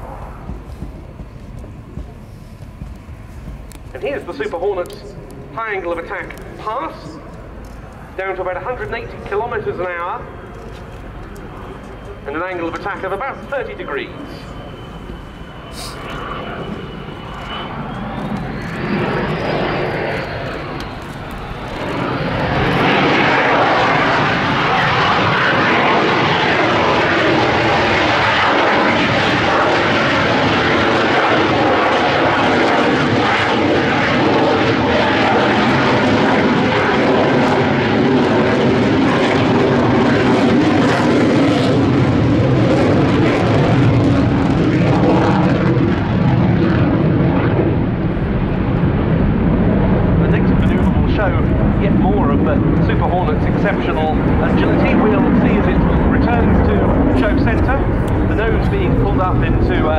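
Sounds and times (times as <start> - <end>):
jet engine whine: 0.0 - 59.9
loud jet engine noise: 0.0 - 59.9.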